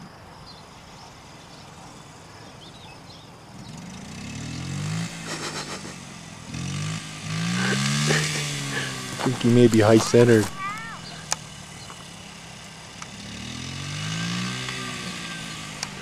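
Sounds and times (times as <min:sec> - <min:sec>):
dirt bike engine revving: 0:00.7 - 0:16.0.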